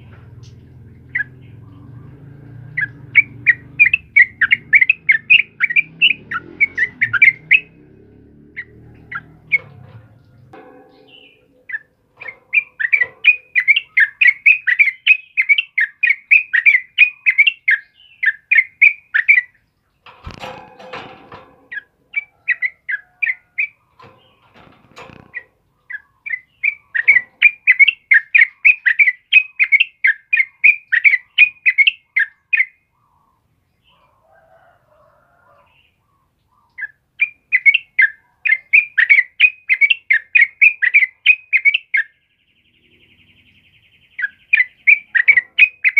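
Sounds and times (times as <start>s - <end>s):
bird chirping rapidly: 0.0s - 34.0s, 35.7s - 45.9s.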